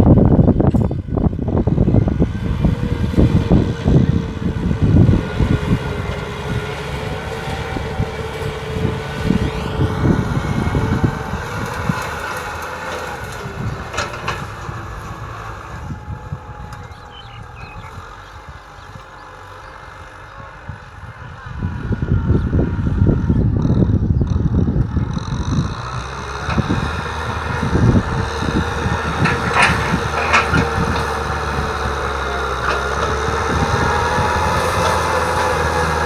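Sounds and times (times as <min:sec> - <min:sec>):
tractor diesel engine rumble: 0:00.0 - 0:36.0.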